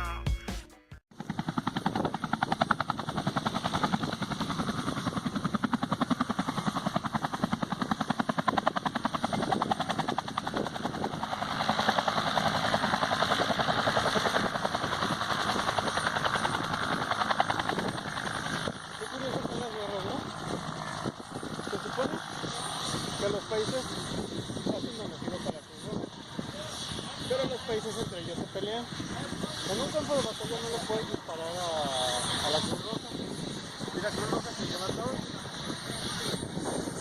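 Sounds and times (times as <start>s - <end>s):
helicopter rotor beating: 1.1s - 37.0s.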